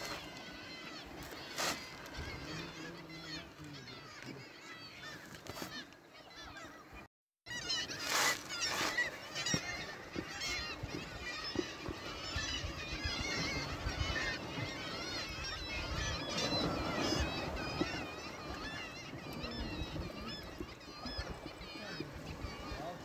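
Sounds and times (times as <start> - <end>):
flock of birds honking: 0.0 - 23.0.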